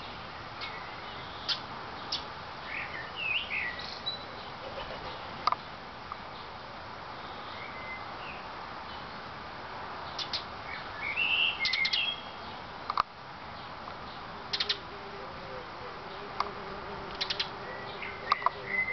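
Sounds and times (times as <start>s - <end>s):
small birds chirping: 0.0s - 9.2s, 10.0s - 18.9s
steady background hiss: 0.0s - 18.9s.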